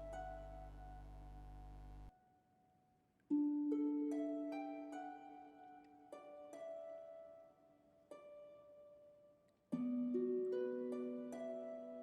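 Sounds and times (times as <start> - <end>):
harp-like plucked string music: 0.0 - 2.3, 3.3 - 12.0.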